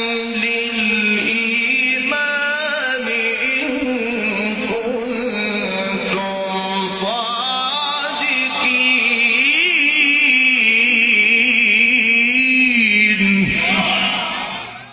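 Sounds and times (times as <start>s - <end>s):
man reciting melodically: 0.0s - 14.9s.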